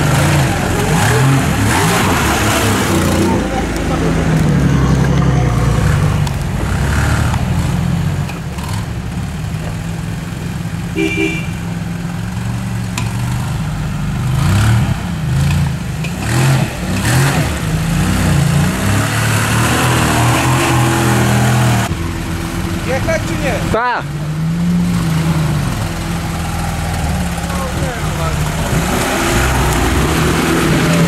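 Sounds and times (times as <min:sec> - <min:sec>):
off-road vehicle engine: 0:00.0 - 0:31.0.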